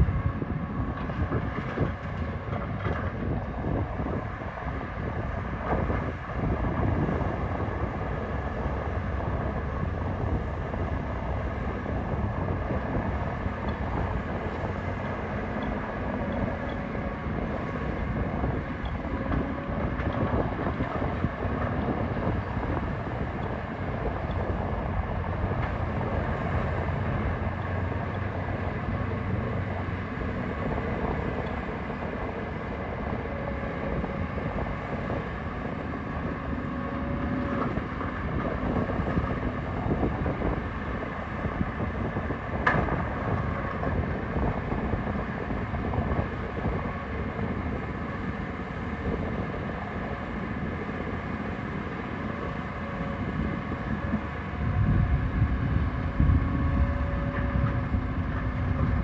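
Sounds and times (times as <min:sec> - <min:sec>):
construction machinery diesel engines: 0:00.0 - 0:59.0.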